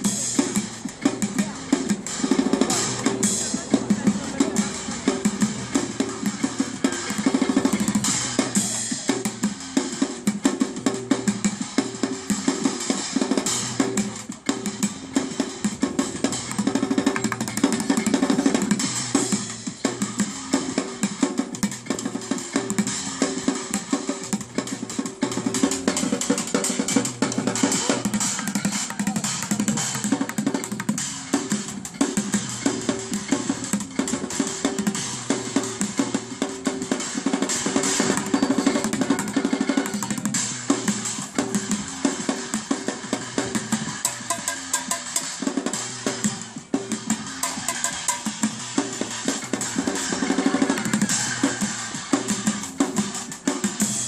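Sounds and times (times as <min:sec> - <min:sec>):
drumming on buckets: 0:00.0 - 0:54.0.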